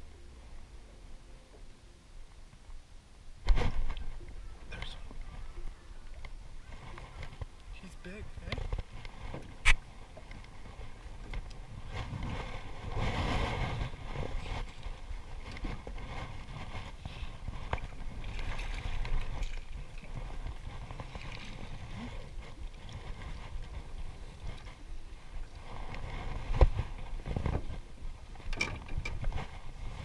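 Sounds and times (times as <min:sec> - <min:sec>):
waves slapping against boat: 0:03.4 - 0:30.0
wind buffeting microphone: 0:03.4 - 0:30.0.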